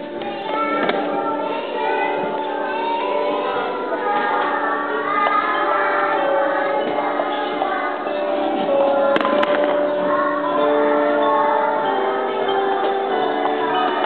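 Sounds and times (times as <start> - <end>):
music: 0.0 - 14.0
young children singing: 0.0 - 14.0.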